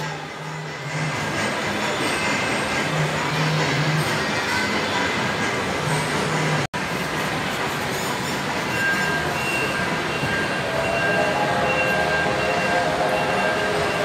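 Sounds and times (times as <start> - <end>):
toy train rumbling on tiles: 0.0 - 14.0.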